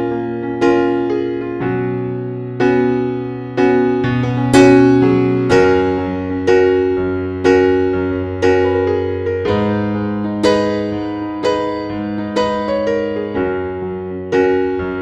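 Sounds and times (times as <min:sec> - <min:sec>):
electric piano chords: 0:00.0 - 0:15.0.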